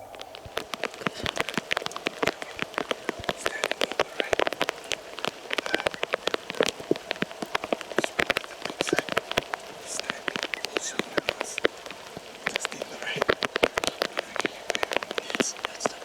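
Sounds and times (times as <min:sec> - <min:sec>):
rain drops tapping hard surface: 0:00.0 - 0:16.0.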